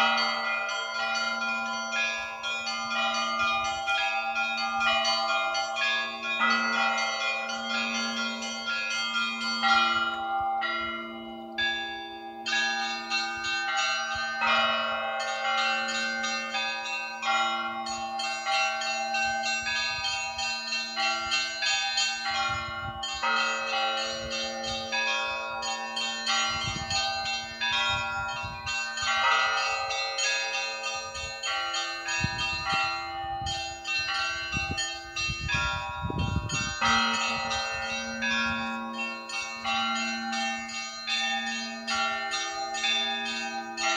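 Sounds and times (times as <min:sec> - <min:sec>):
low church bell striking: 0:00.0 - 0:43.9
small high bells pealing: 0:00.0 - 0:43.9.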